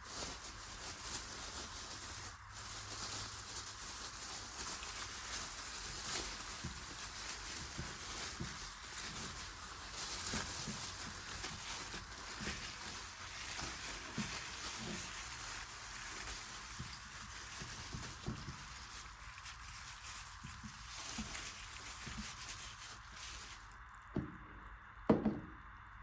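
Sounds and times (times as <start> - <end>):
charcoal crackles and pops: 0.0 - 26.0.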